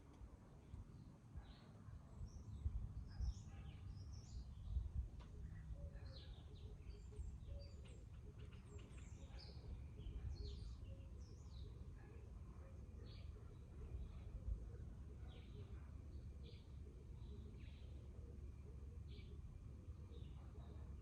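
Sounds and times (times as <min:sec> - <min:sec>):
small birds chirping: 0:00.6 - 0:21.0.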